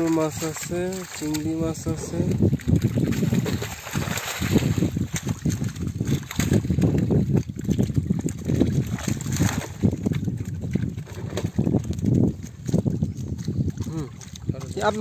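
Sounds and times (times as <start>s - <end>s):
fish thrashing in a net: 0.0s - 15.0s
water splashing: 0.0s - 15.0s.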